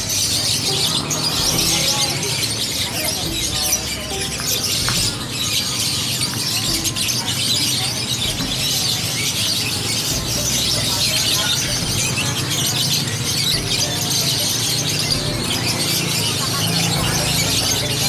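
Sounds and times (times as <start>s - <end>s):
murmur of voices: 0.0s - 18.0s
songbirds chirping: 0.0s - 18.0s.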